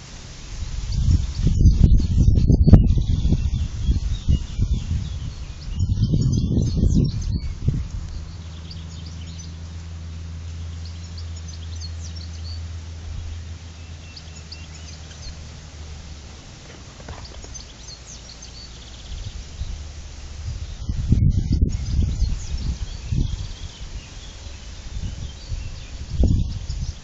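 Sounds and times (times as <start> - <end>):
small birds chirping: 0.0 - 27.0
steady low hum: 0.0 - 27.0.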